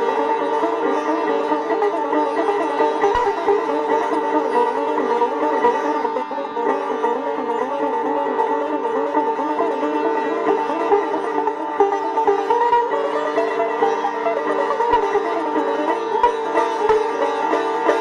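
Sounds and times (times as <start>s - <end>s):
sitar melody: 0.0s - 18.0s.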